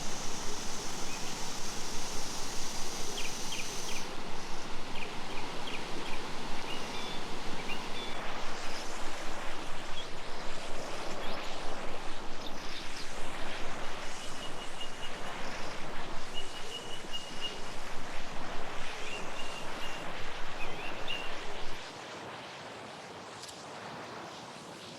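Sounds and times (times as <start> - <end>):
stream water rushing: 0.0 - 21.9.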